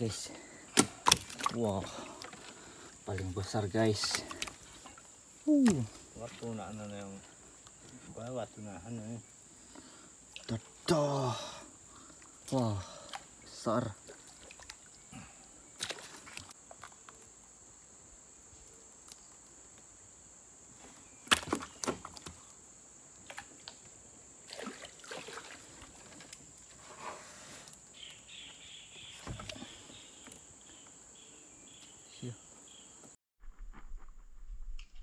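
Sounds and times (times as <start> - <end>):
high insect drone: 0.0 - 33.2.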